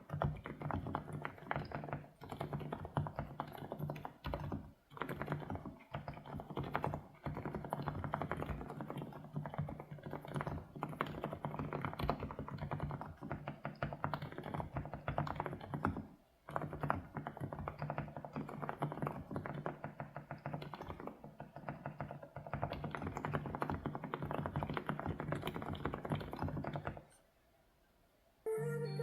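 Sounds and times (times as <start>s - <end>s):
mechanical keyboard typing: 0.0s - 27.2s.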